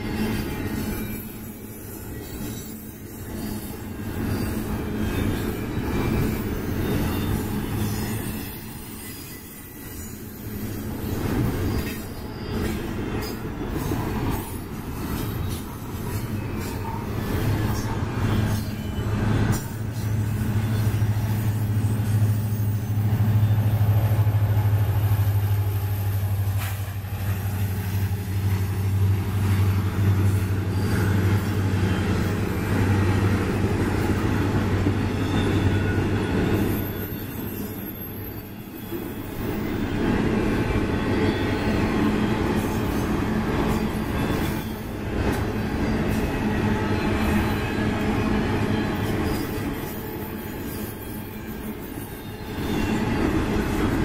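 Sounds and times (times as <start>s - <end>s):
wheel squeal: 0.0s - 39.9s, 40.6s - 54.0s
diesel locomotive engine hum: 0.0s - 54.0s
train wheels rumbling on rail: 0.0s - 54.0s.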